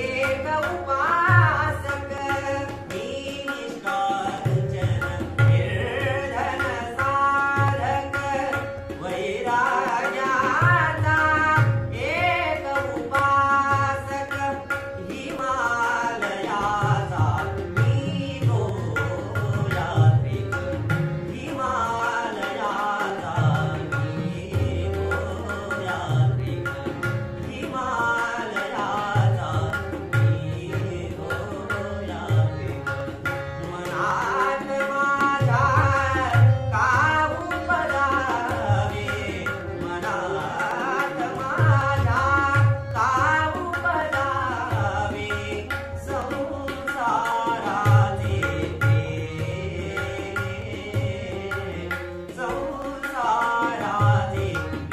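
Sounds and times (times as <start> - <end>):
harmonium drone: 0.0 - 54.9
man singing: 0.0 - 54.9
tabla rhythm: 0.0 - 54.9.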